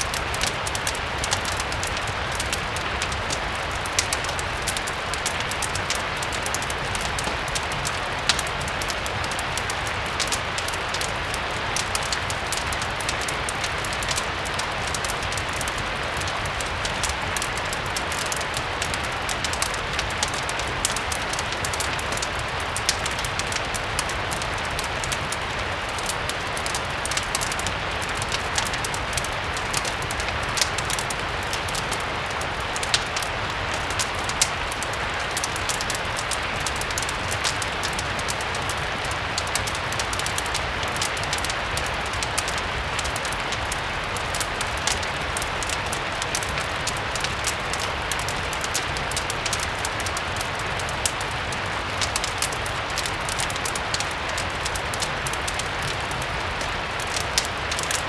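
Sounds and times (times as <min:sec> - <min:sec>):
fireplace crackles: 0:00.0 - 0:58.0
rain hiss: 0:00.0 - 0:58.0.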